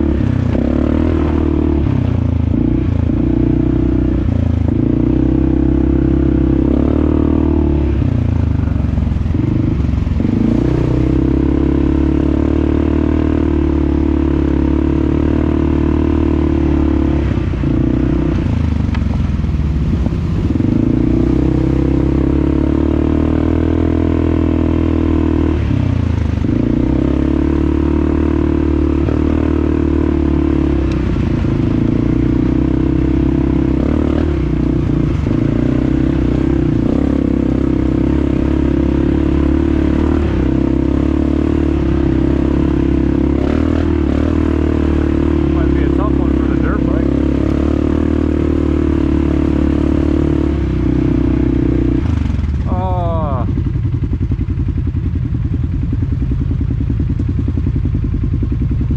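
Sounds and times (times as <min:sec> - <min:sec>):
quad bike engine running: 0:00.0 - 0:58.9.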